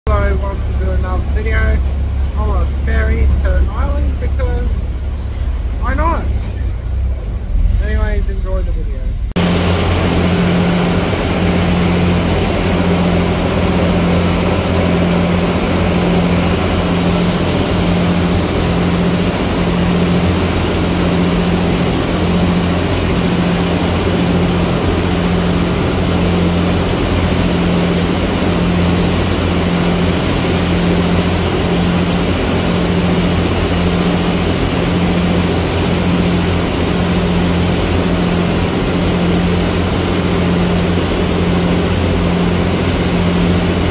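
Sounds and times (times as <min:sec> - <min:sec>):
churning wake rushing: 0:00.1 - 0:43.9
ferry engines droning: 0:00.1 - 0:43.9.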